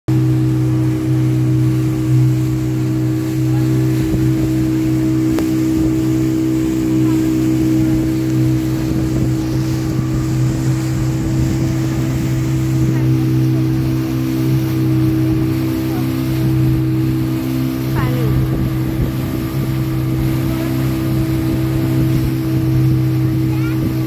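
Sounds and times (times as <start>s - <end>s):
motorboat engine drone: 0.1s - 24.0s.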